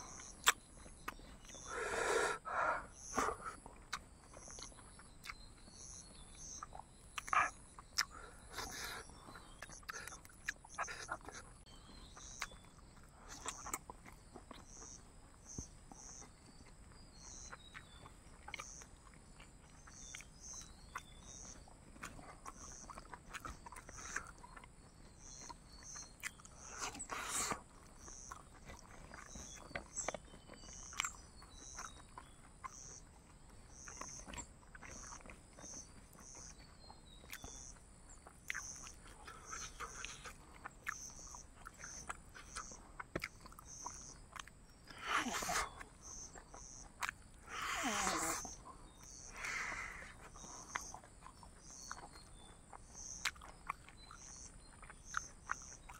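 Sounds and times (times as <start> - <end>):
insect chirping: 0.0 - 55.9
man chewing food: 0.0 - 55.9.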